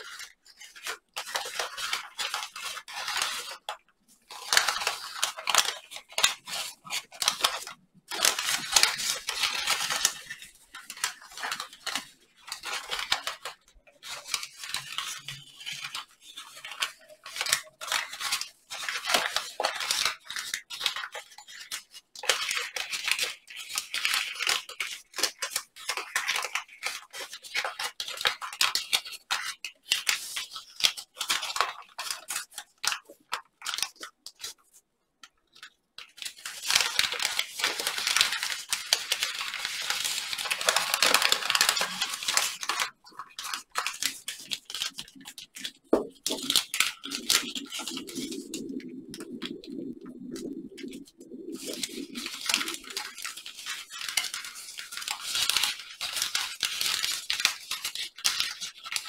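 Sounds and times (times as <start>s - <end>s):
paper rustling and crinkling: 0.0s - 59.0s.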